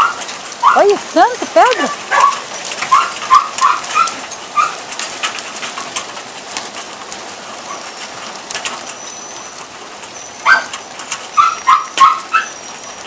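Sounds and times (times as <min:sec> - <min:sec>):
sharp raindrop impacts: 0:00.0 - 0:13.0
steady rain falling: 0:00.0 - 0:13.0.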